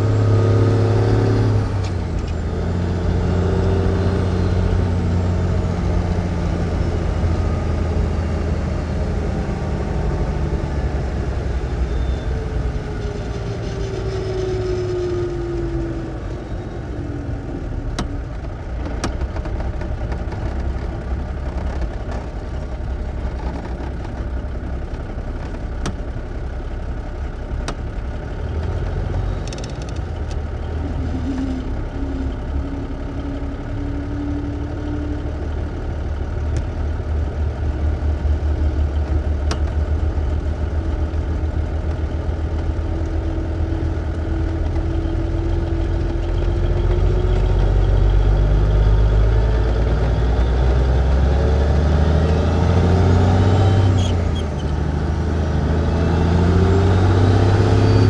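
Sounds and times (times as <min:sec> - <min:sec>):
truck engine rumble: 0:00.0 - 0:58.0.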